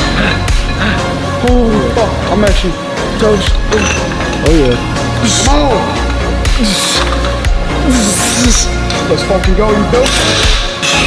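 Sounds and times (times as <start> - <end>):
music with deep bass and beat: 0.0 - 11.0.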